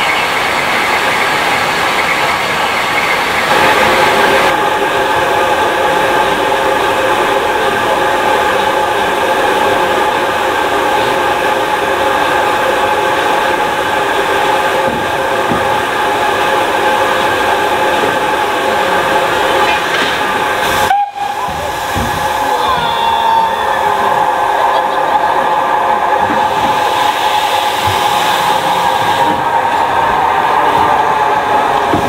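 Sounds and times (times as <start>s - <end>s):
steam locomotive hissing steam: 0.0s - 32.0s.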